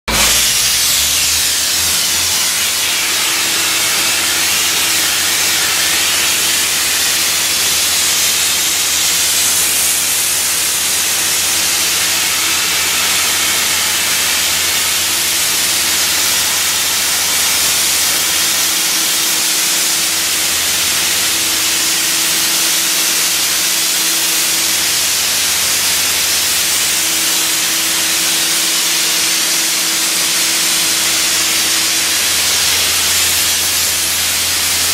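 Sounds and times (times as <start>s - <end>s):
blasting nozzle hissing: 0.1s - 34.9s.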